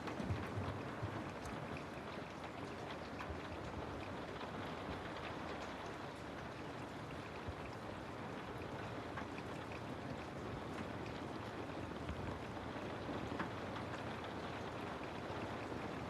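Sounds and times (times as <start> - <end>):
steady water noise: 0.0 - 16.0.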